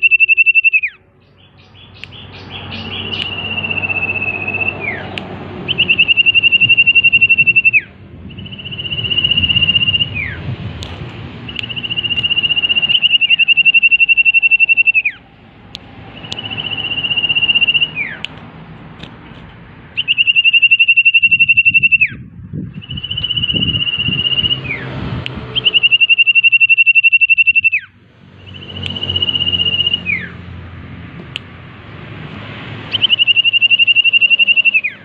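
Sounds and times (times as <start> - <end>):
bird singing high whistles: 0.0 - 10.5, 11.5 - 15.2, 16.1 - 18.3, 20.0 - 24.9, 25.5 - 30.4, 32.9 - 35.0.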